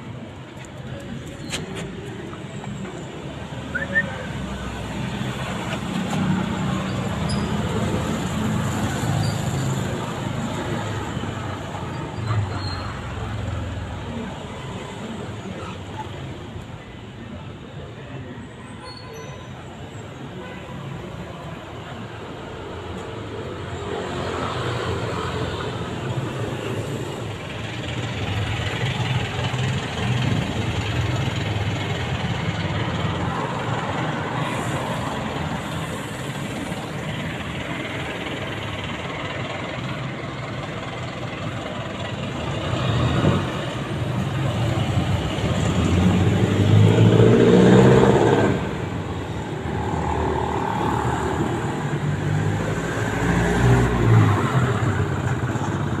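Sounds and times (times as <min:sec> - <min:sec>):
street traffic rumble: 0:00.0 - 0:56.0.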